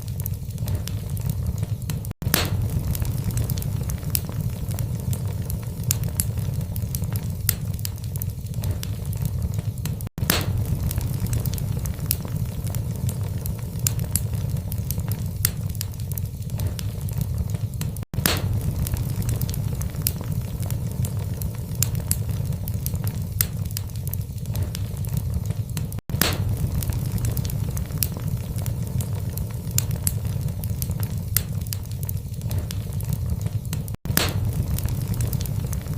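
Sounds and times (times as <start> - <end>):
logs crackling: 0.0 - 35.9
low rumble of flames: 0.0 - 35.9.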